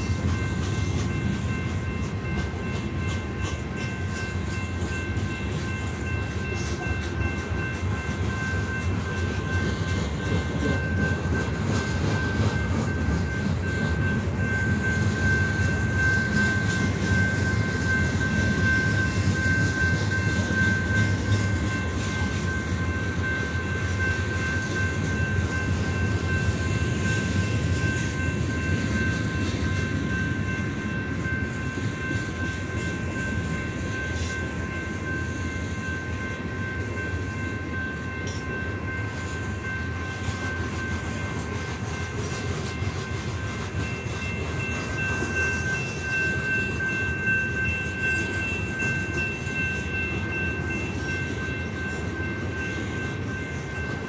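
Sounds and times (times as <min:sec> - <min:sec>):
high-pitched ringing tone: 0:00.0 - 0:54.0
train wheels rumbling on rail: 0:00.0 - 0:54.0.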